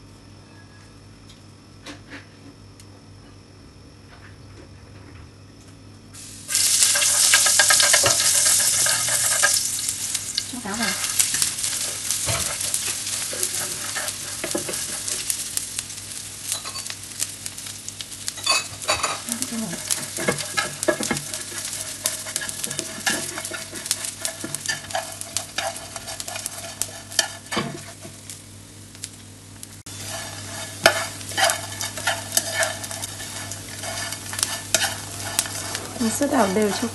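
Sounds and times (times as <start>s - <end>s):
fish sizzling in hot oil: 6.2s - 36.9s.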